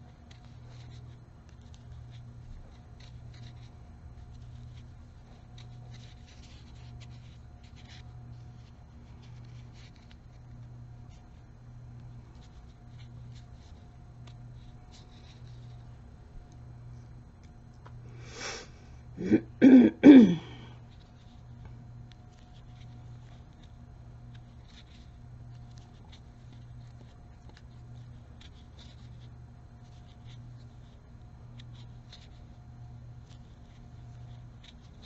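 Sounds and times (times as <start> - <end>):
crochet hook rustling yarn: 0.2 - 11.4, 12.1 - 17.1, 20.9 - 35.0.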